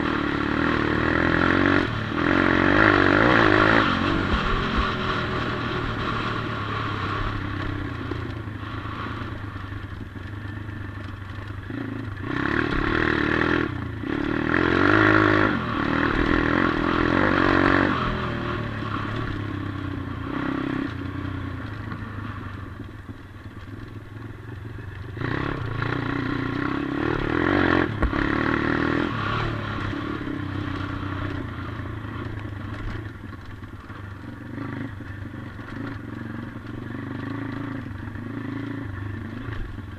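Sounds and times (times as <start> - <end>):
motorbike engine revving: 0.0 - 9.8, 11.3 - 22.8, 25.0 - 39.9.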